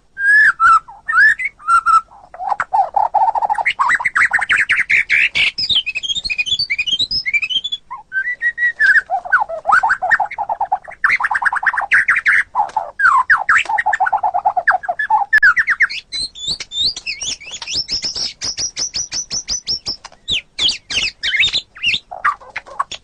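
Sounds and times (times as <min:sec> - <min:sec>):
bird singing whistles and trills: 0:00.2 - 0:23.0.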